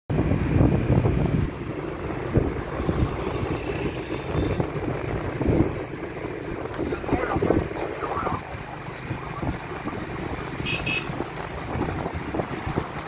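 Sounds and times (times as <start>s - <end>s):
motorbike traffic rumbling: 0.1s - 13.0s
wind buffeting microphone: 0.1s - 13.0s.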